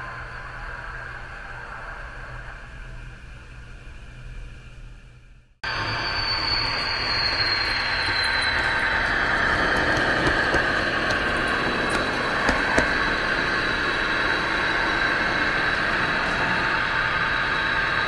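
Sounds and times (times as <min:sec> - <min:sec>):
model diesel locomotive engine whine: 0:00.0 - 0:18.0.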